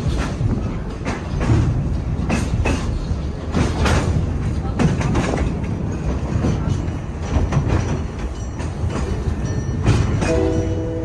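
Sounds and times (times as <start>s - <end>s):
train rumble: 0.0s - 11.0s
train wheels clacking on rails: 0.0s - 11.0s.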